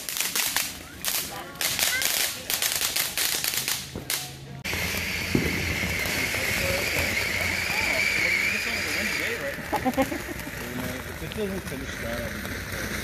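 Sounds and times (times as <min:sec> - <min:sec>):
fireworks crackling pops: 0:00.0 - 0:13.0
fountain firework hissing: 0:00.0 - 0:13.0.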